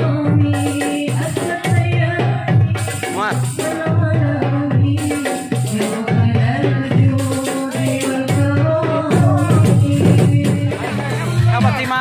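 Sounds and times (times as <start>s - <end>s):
hand drums beating a rhythm: 0.0s - 12.0s.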